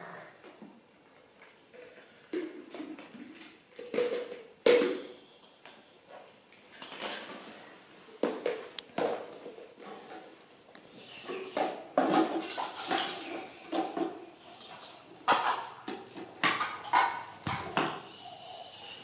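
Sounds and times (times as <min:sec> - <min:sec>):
toys clattering on tiled floor: 0:01.4 - 0:07.4, 0:08.2 - 0:18.1.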